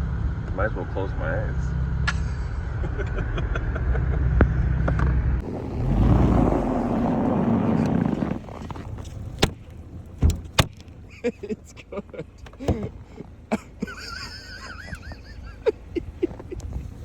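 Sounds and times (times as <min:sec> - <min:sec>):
car engine hum inside cabin: 0:00.0 - 0:17.0.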